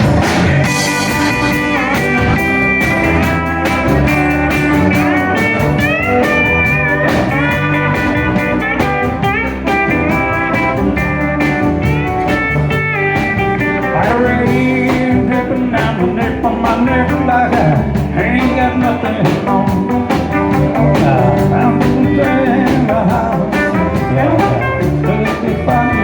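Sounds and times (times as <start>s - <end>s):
country band playing: 0.0s - 26.0s
lead guitar bending notes: 0.0s - 26.0s.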